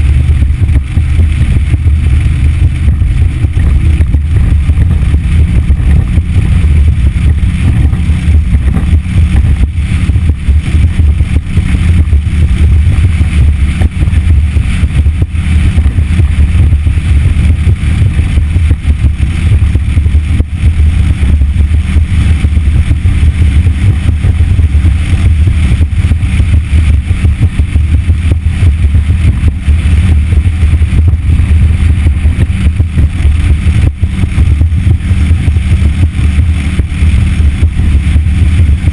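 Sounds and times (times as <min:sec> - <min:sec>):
outboard motorboat engine: 0:00.0 - 0:38.9
wind buffeting microphone: 0:00.0 - 0:38.9.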